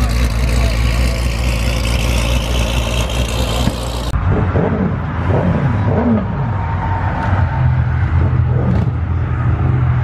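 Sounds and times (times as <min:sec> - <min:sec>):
car engine revving: 0:00.0 - 0:10.0
car exhaust rumble: 0:00.0 - 0:10.0.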